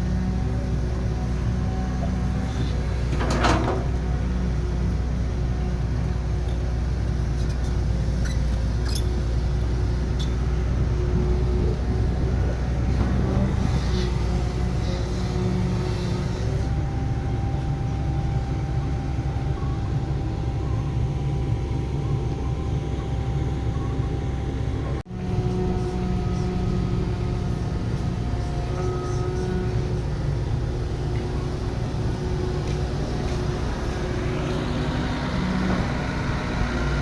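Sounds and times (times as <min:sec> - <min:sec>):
diesel construction machinery rumbling: 0:00.0 - 0:37.0.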